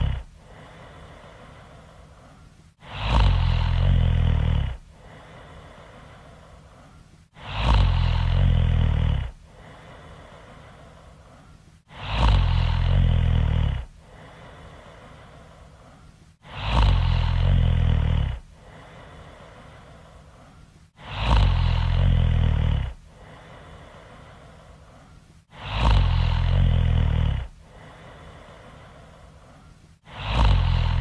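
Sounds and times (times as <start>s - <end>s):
loud snoring: 0.0s - 6.6s, 7.4s - 10.9s, 11.9s - 15.4s, 16.4s - 20.0s, 21.0s - 24.4s, 25.5s - 29.1s, 30.0s - 31.0s
quiet breathing: 0.0s - 31.0s.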